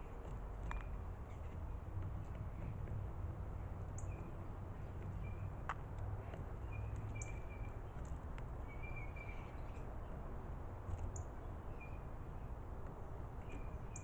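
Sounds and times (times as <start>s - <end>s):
birds chirping: 0.0s - 10.4s, 11.0s - 14.0s.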